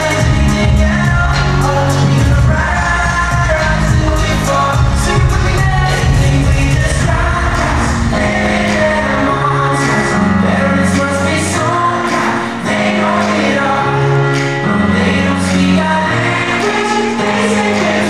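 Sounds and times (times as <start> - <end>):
live pop music: 0.0 - 18.0
person singing: 0.0 - 18.0.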